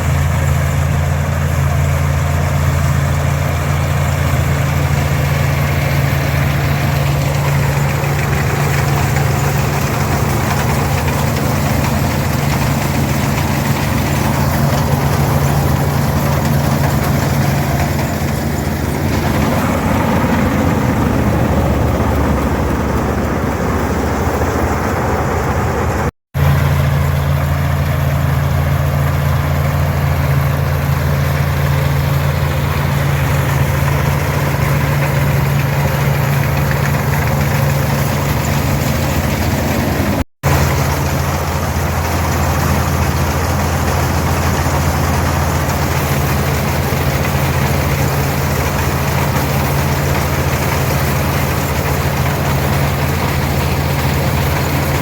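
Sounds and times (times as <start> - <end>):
combine machinery clattering and whirring: 0.0 - 55.0
tractor diesel engine running: 0.0 - 55.0.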